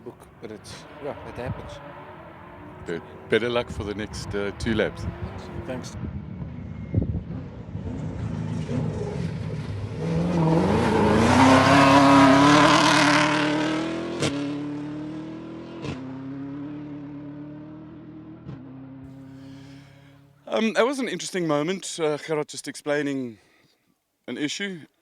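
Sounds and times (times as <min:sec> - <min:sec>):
race car engine accelerating: 0:00.3 - 0:20.4.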